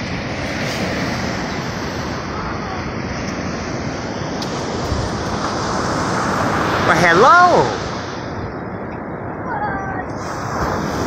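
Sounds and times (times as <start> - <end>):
waves breaking on a beach: 0.0 - 11.0
wind on microphone: 0.0 - 11.0.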